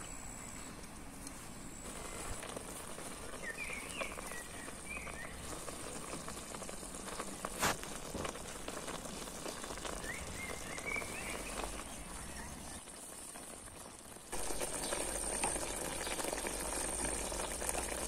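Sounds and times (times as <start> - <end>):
vegetables simmering in oil: 1.8 - 18.0.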